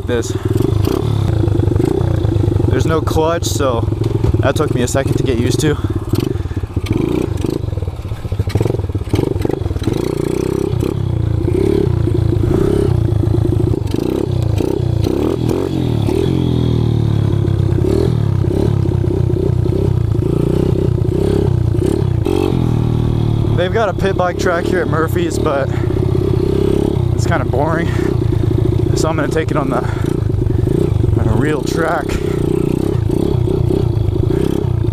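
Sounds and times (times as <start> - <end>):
motorbike engine revving: 0.0 - 34.9.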